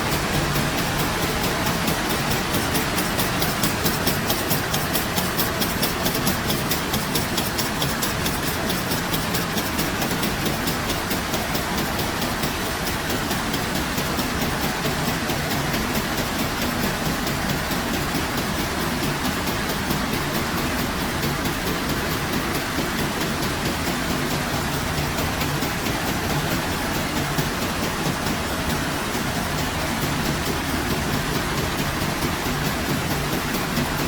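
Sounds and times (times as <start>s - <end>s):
fast regular ticking: 0.0s - 34.0s
machine running: 0.0s - 34.0s.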